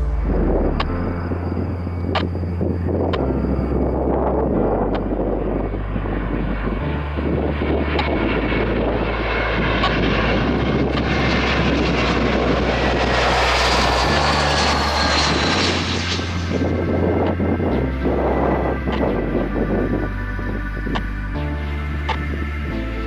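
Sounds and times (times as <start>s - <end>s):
engine whine sliding down: 0.0s - 23.0s
jet airliner engines rushing: 0.0s - 23.0s.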